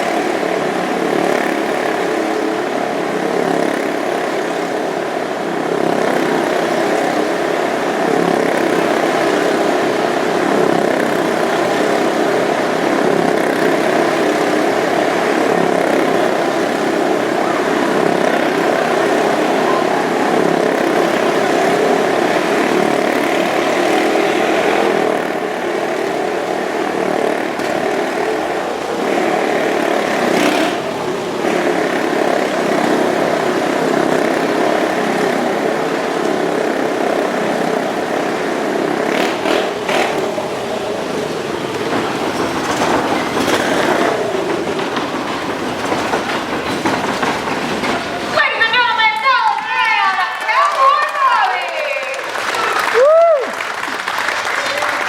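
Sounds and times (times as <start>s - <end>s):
motorcycle engines running hard: 0.0s - 55.0s.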